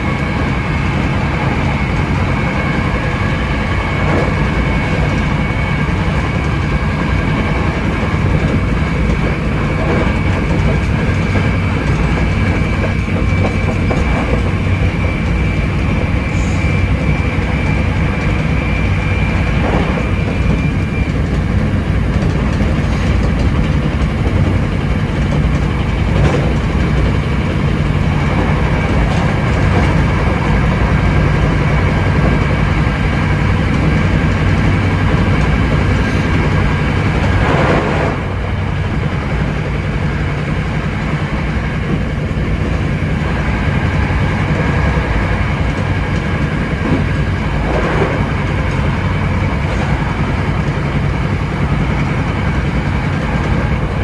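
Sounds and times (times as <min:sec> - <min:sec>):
clacks over rail joints: 0:00.0 - 0:54.0
train wheels rumbling on rails: 0:00.0 - 0:54.0.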